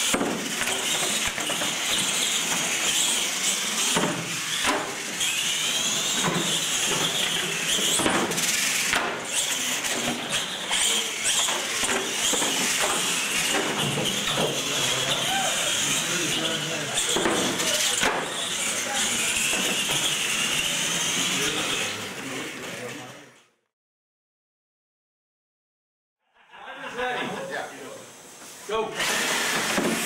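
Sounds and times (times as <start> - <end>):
toy truck motor whine: 0.0 - 23.6, 29.0 - 30.0.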